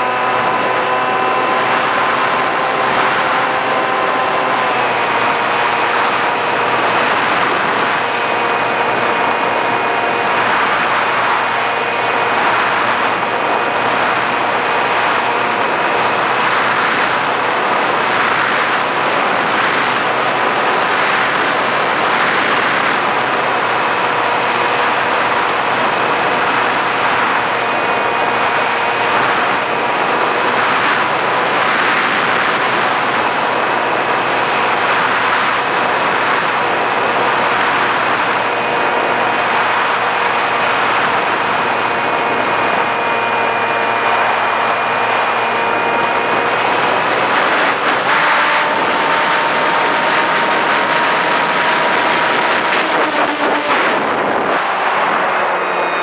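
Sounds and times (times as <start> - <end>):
electric motor whine: 0.0 - 56.0
rushing wind: 0.0 - 56.0.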